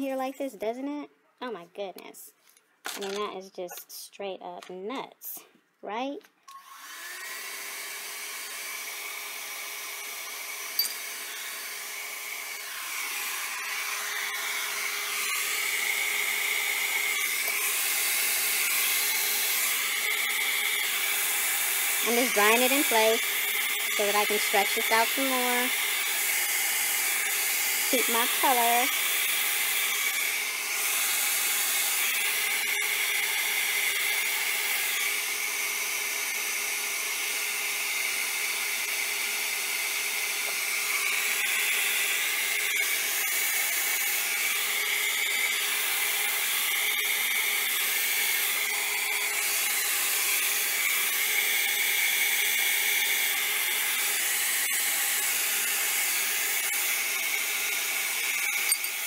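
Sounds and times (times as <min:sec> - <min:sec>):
blow dryer running: 0:06.6 - 0:59.0.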